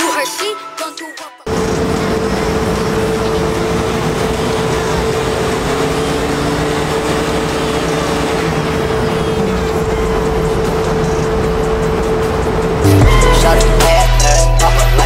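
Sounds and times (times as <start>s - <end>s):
diesel car engine running on dyno: 1.5s - 15.0s.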